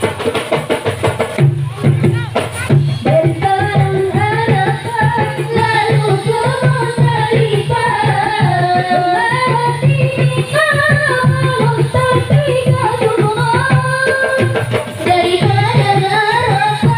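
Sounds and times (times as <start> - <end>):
hand drums beating: 0.0 - 16.9.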